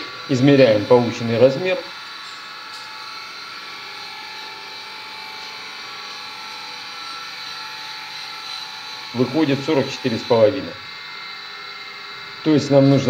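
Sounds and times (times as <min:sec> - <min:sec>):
machine humming with thin whine: 0:00.0 - 0:13.0.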